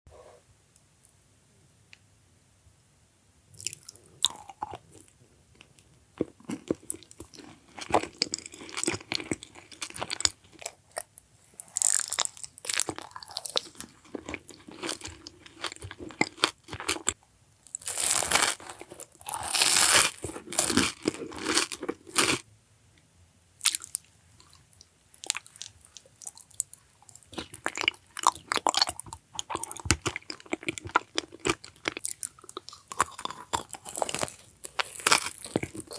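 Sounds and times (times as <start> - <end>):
crunchy chewing: 3.6 - 22.4, 23.6 - 35.9.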